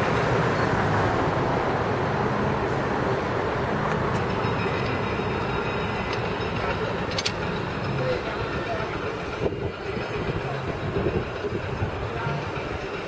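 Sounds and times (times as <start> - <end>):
road surface rumble: 0.0 - 13.0.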